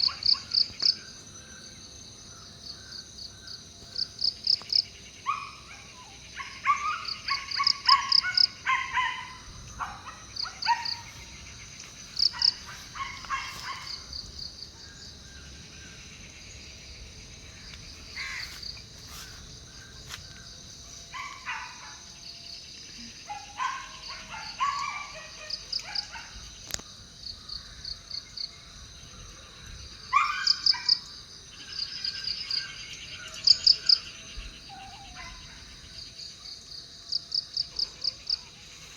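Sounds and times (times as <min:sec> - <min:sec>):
birds calling: 0:00.0 - 0:22.2, 0:22.8 - 0:27.9, 0:29.2 - 0:36.1
crickets chirping: 0:00.0 - 0:38.9.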